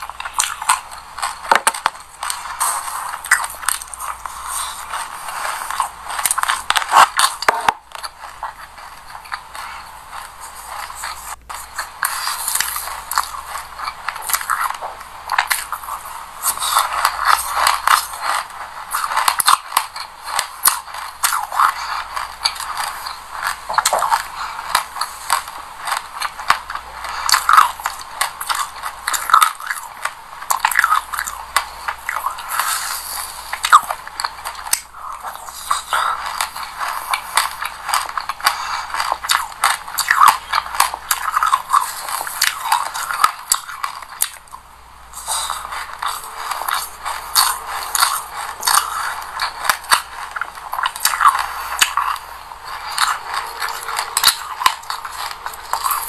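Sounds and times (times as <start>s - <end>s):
crunching and chewing seeds: 0.0s - 56.0s.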